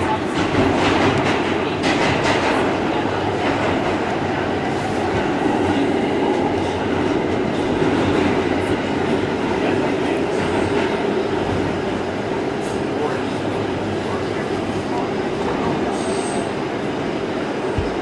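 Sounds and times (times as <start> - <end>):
subway train running on track: 0.0 - 18.0.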